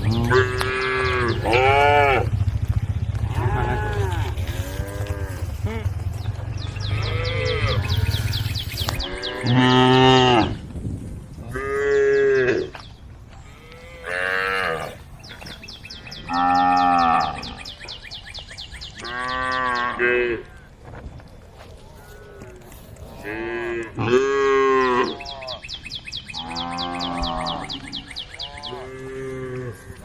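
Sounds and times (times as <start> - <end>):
cows mooing: 0.0 - 10.6, 11.5 - 12.8, 13.4 - 15.1, 16.0 - 17.8, 19.0 - 20.7, 22.0 - 25.6, 26.3 - 30.0.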